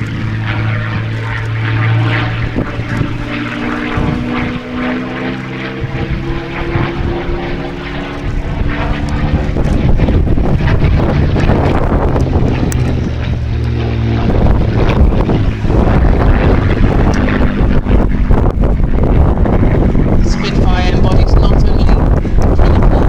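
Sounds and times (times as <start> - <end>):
propeller plane engine flying past: 0.0 - 23.0.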